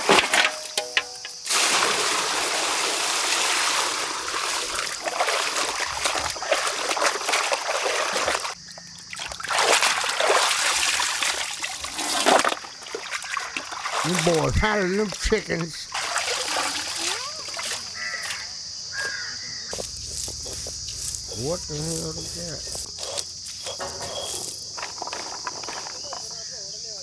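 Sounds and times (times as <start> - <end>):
water pouring and splashing: 0.0 - 18.5, 19.8 - 26.3.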